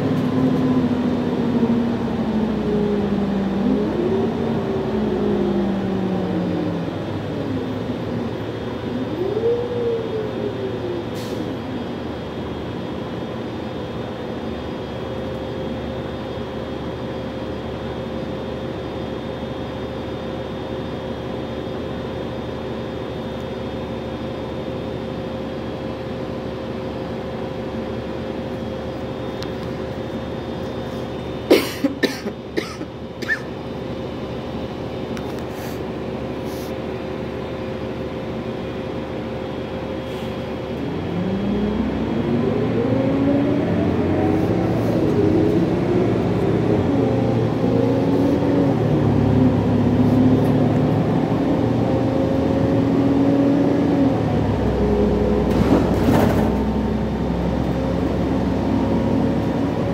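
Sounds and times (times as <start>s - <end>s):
bus engine running: 0.0s - 59.9s
constant whine: 0.0s - 59.9s.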